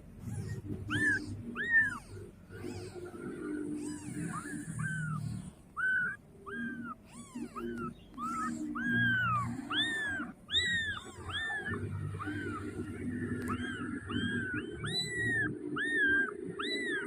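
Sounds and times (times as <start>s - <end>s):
kittens mewing: 0.0s - 17.0s.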